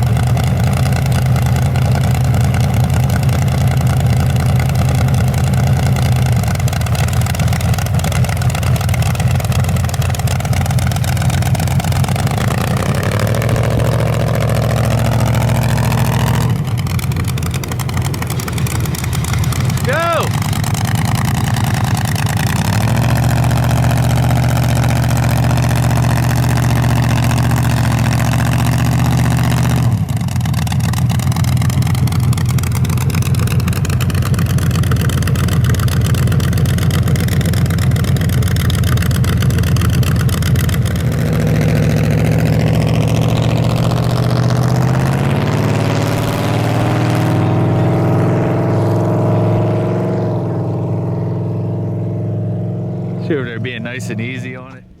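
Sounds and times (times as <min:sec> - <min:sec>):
truck engine revving high: 0:00.0 - 0:55.0.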